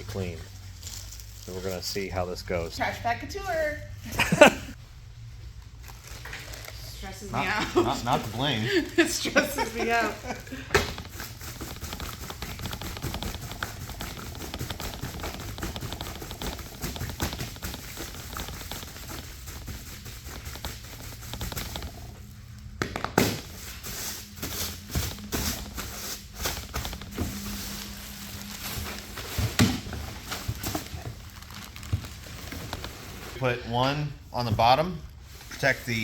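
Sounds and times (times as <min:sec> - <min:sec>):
plastic bags rustling: 0:00.1 - 0:02.1, 0:05.3 - 0:22.8, 0:23.4 - 0:33.5.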